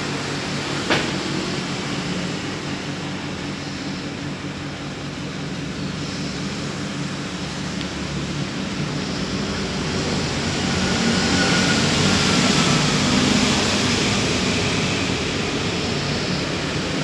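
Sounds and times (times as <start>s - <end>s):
air conditioner fan rushing: 0.0s - 17.0s.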